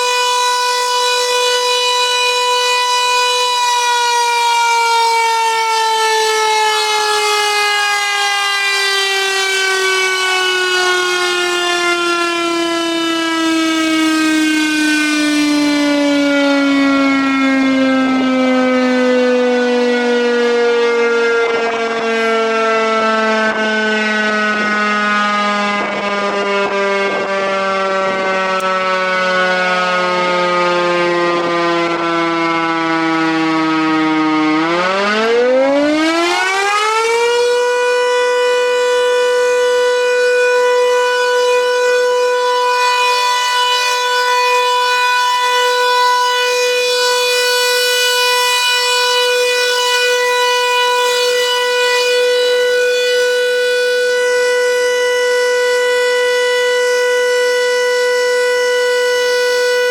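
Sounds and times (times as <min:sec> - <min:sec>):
siren sounding: 0:00.0 - 0:59.9.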